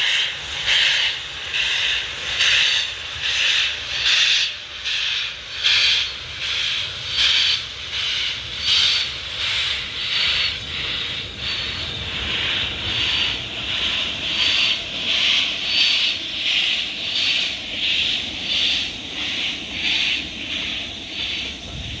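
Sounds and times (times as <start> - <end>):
steam hiss: 0.0 - 22.0
steam locomotive exhaust beats: 0.0 - 22.0
train rumble: 0.0 - 22.0.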